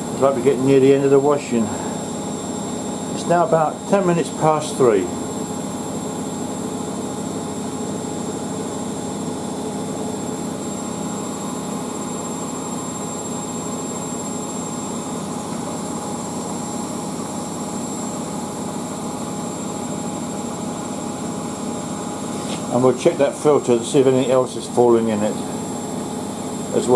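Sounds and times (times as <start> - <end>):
washing machine running: 0.0 - 26.9.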